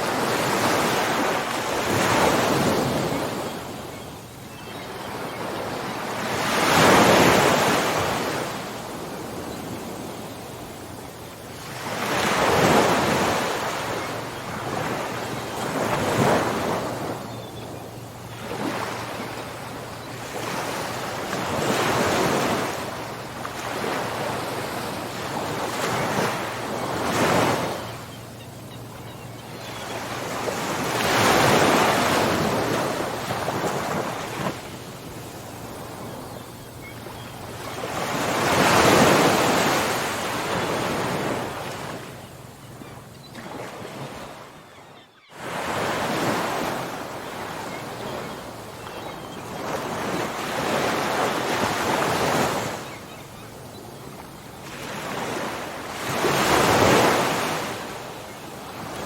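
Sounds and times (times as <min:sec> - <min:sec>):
ocean waves breaking: 0:00.0 - 0:04.0, 0:04.6 - 0:44.6, 0:45.3 - 0:59.0.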